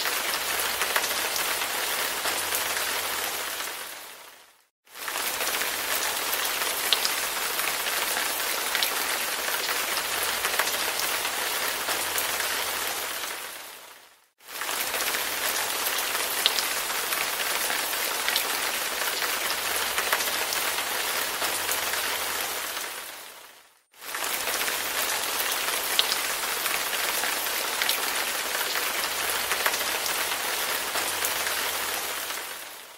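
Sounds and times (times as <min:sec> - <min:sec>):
rain falling steadily: 0:00.0 - 0:32.9.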